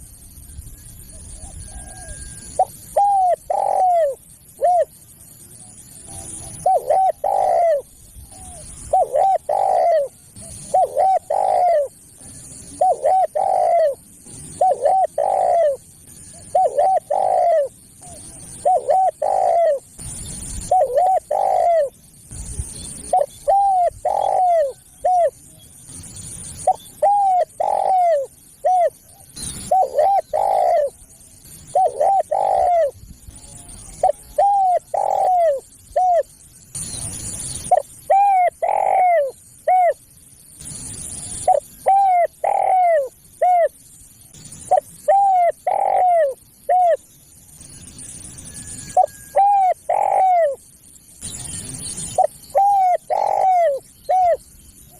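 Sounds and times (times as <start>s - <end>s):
dove cooing: 1.0s - 5.0s, 5.6s - 22.0s, 23.0s - 25.6s, 26.5s - 36.4s, 37.6s - 40.0s, 41.4s - 43.8s, 44.7s - 47.1s, 49.0s - 50.6s, 52.1s - 54.9s.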